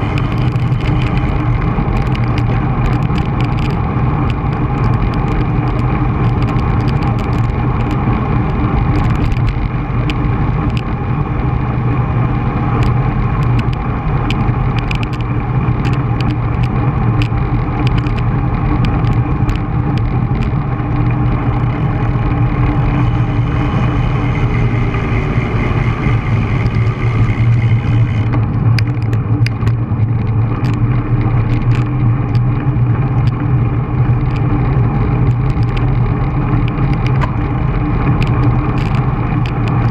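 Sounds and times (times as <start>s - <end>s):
small clicks and rattles: 0.0s - 12.0s, 12.7s - 39.9s
tyres rolling on asphalt: 0.0s - 39.9s
wind rushing over microphone: 0.0s - 39.9s.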